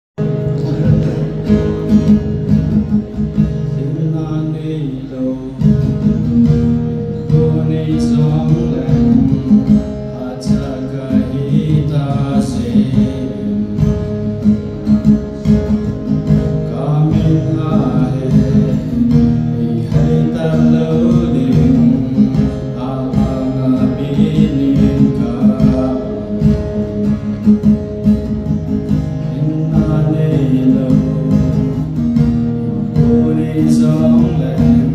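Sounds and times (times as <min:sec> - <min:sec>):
strummed acoustic guitar: 0:00.2 - 0:34.9
person singing: 0:03.1 - 0:27.4, 0:29.0 - 0:34.9.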